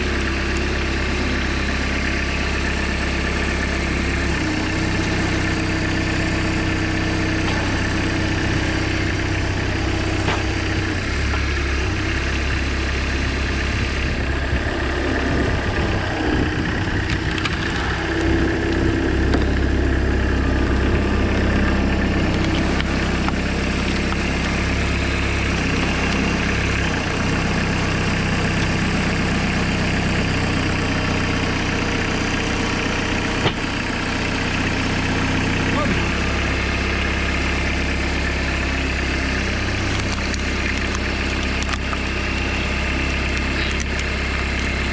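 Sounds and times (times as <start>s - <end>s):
tractor engine idling: 0.0s - 44.9s.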